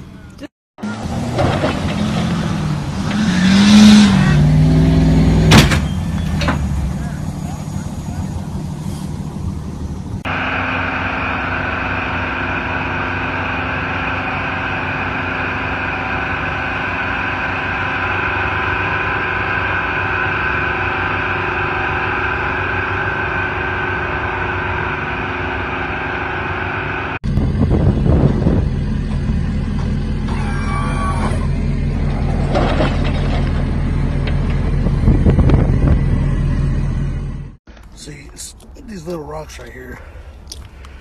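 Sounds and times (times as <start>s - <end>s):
diesel engine droning under load: 0.0s - 41.0s
loud rough low noise: 0.8s - 39.0s.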